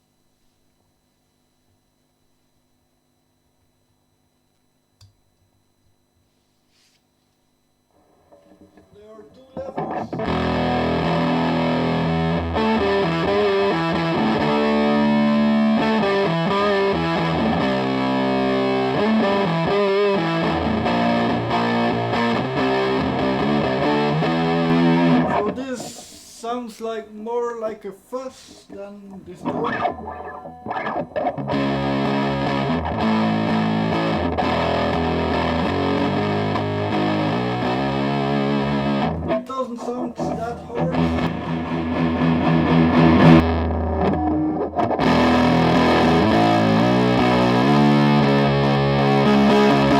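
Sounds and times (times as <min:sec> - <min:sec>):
distorted electric guitar: 0:07.8 - 0:26.5, 0:28.4 - 0:49.9.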